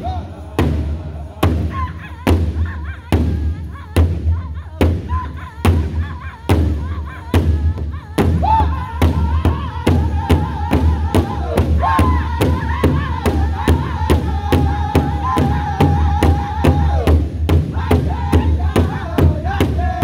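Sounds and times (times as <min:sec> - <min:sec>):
men singing in high voices: 0:00.0 - 0:20.0
large drum beating: 0:00.5 - 0:20.0.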